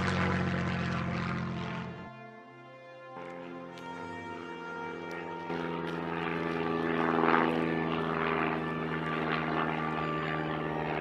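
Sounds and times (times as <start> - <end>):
propeller planes droning overhead: 0.0 - 11.0.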